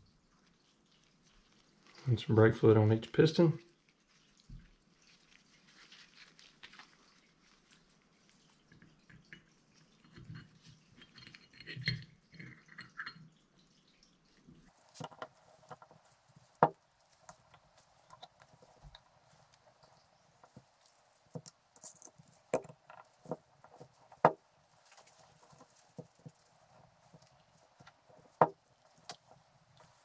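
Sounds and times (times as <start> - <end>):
soft wet squishes: 0.0 - 30.0.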